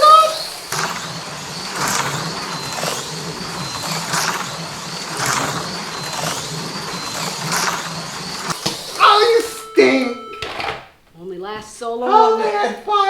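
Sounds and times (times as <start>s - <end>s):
slot car motors whining: 0.0s - 11.0s.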